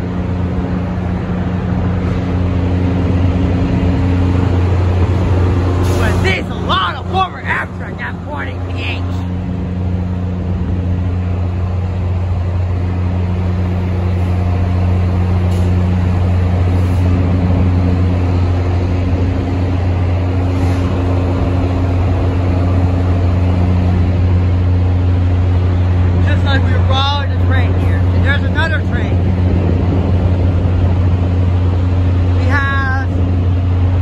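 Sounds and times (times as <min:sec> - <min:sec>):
locomotive engine drone: 0:00.0 - 0:34.0.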